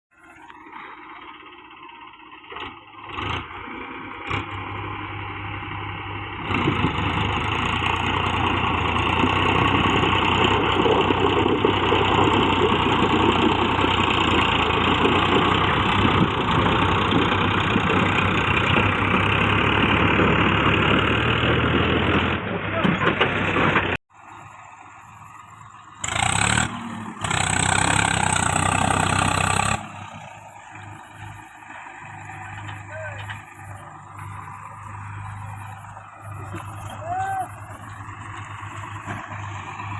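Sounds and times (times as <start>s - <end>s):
tractor diesel engine running: 0.1s - 39.9s.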